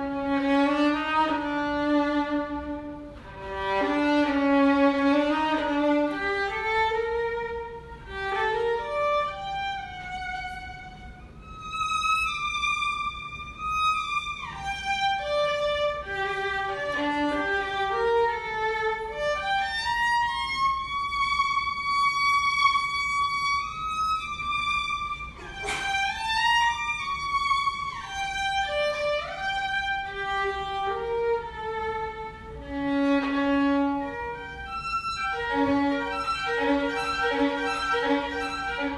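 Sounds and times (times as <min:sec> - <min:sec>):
slow violin melody: 0:00.0 - 0:38.9.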